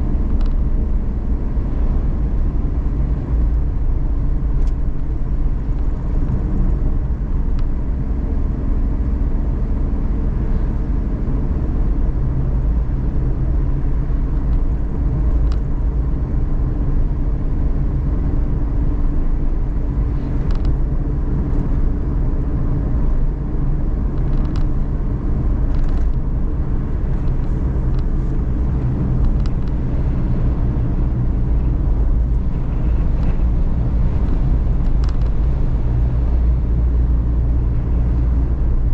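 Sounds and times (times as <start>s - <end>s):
van engine and road rumble: 0.0s - 38.9s.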